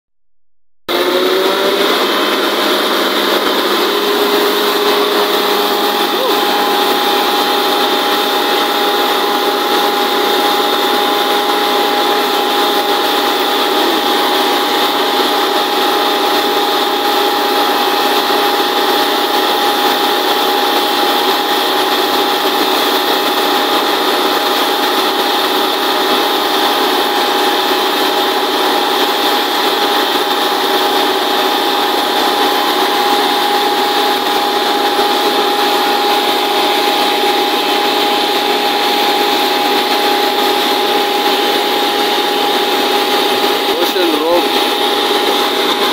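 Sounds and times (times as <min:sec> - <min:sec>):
well drilling rig drilling: 0:00.9 - 0:45.9
constant mechanical whine: 0:01.0 - 0:45.9.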